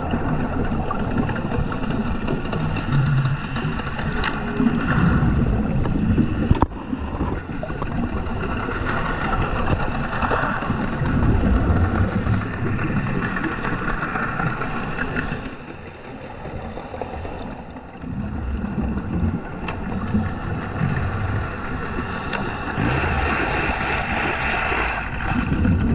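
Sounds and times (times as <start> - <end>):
regulator exhaling bubbles: 0.0 - 15.8, 17.7 - 25.9
low underwater rumble: 0.0 - 25.9.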